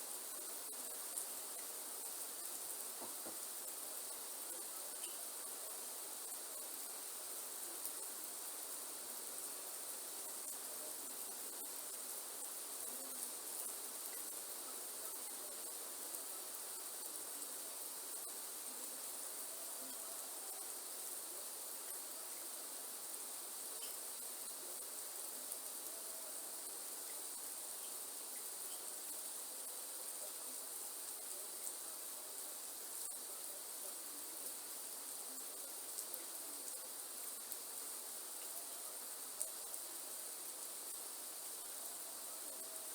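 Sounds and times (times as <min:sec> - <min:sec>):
soft rain hiss: 0:00.0 - 0:42.9
high-pitched insect chorus: 0:07.8 - 0:42.9.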